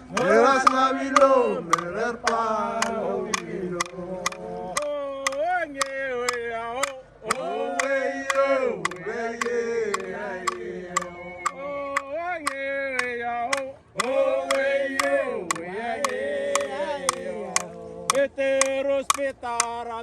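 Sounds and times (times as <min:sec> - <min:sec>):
group of voices chanting: 0:00.0 - 0:18.7
sharp percussive beats: 0:00.0 - 0:19.8.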